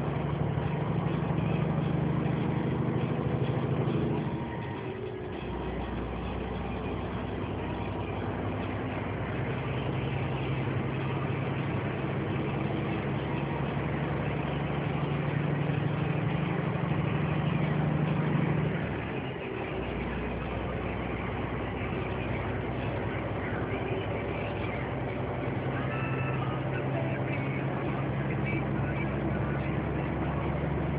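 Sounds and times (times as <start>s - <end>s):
road noise: 0.0s - 30.9s
truck engine hum: 0.0s - 30.9s.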